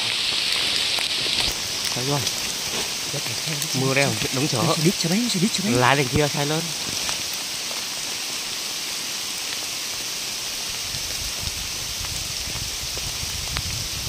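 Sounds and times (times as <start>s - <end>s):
rain on grass and leaves: 0.0s - 14.0s.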